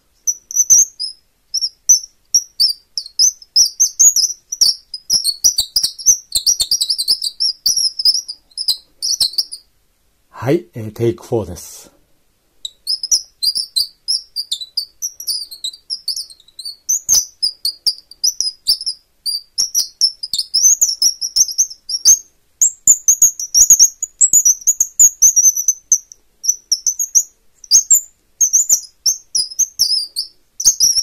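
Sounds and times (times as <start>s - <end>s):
squeaking bird call chirps: 0.3s - 9.7s, 12.6s - 31.0s.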